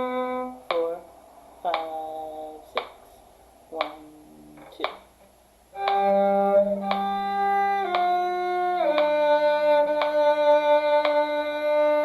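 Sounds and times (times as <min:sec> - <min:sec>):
metronome clicking: 0:00.0 - 0:01.0, 0:01.7 - 0:03.0, 0:03.8 - 0:05.1, 0:05.7 - 0:12.0
bowed strings duet: 0:00.0 - 0:12.0.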